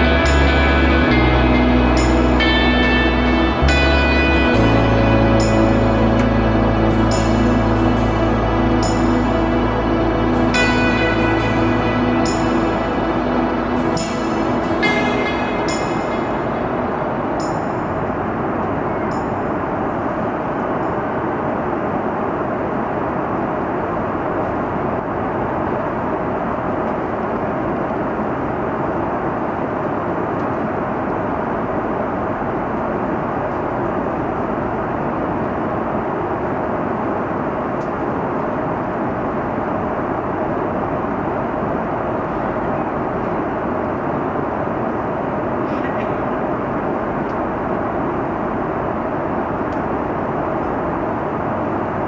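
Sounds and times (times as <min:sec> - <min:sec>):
airliner cabin engine and airflow: 0:00.0 - 0:52.0.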